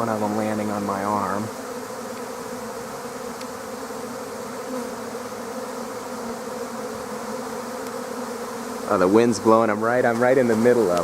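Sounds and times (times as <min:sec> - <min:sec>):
honeybee swarm buzzing: 0:00.0 - 0:11.0.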